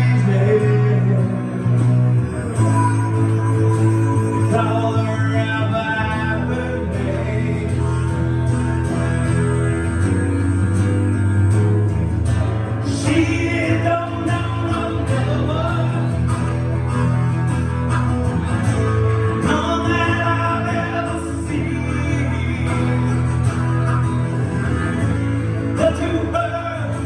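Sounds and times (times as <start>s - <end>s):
live rock ballad with guitar: 0.0s - 27.0s.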